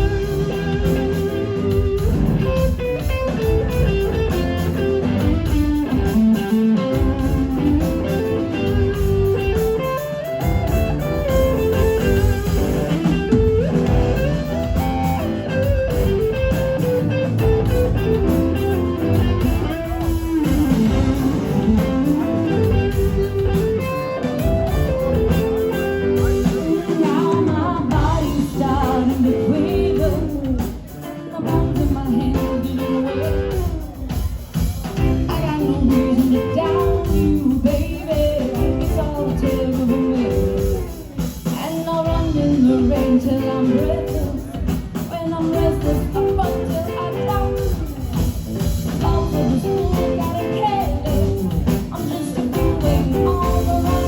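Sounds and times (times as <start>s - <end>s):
electric guitar line: 0.0s - 54.0s
live rock band playing: 0.0s - 54.0s.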